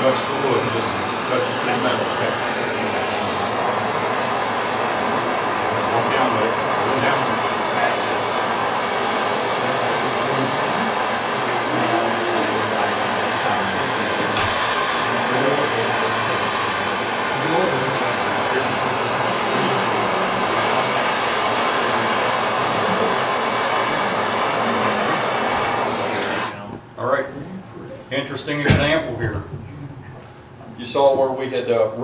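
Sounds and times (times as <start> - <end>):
gas torch hissing: 0.0 - 26.6.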